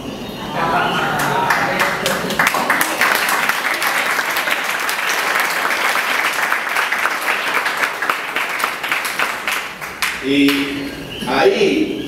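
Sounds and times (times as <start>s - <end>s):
audience applauding: 0.6s - 10.8s.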